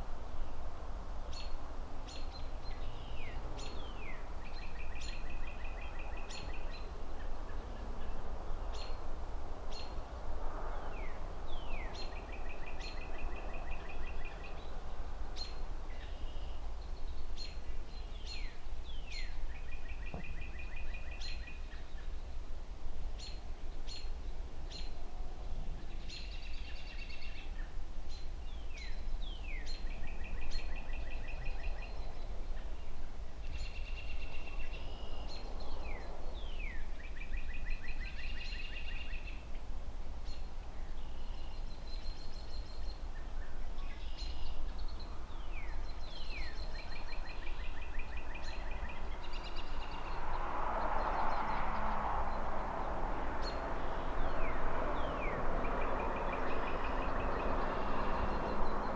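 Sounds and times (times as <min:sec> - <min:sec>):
distant city traffic rumble: 0:00.0 - 0:58.9
songbird singing: 0:00.0 - 0:58.9.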